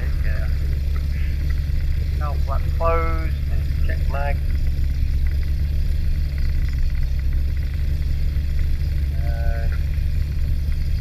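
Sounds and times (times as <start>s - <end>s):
piston engine idling: 0.0s - 11.0s.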